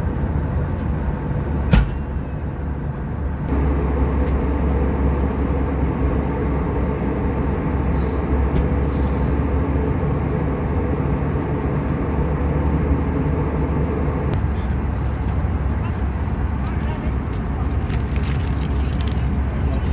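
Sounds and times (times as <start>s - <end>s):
airplane cabin noise: 0.0s - 19.9s.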